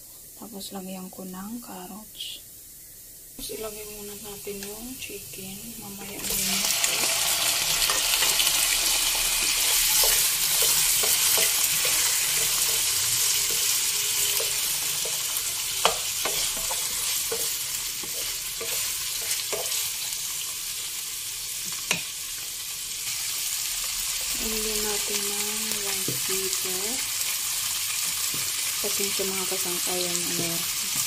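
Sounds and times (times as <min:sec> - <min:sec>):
chicken sizzling in hot oil: 0:06.1 - 0:31.0.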